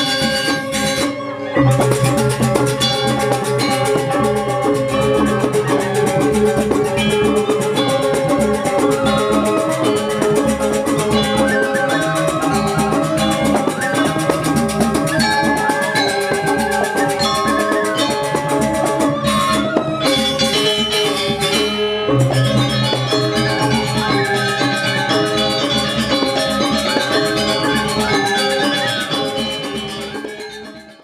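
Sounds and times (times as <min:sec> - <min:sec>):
drum strokes: 0:00.0 - 0:31.0
metallophones playing a melody: 0:00.0 - 0:31.0.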